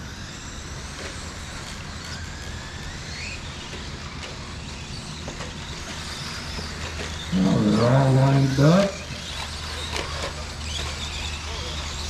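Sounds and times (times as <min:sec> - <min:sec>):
electric toy truck motors whining: 0:00.0 - 0:12.0
steady background noise: 0:00.0 - 0:12.0.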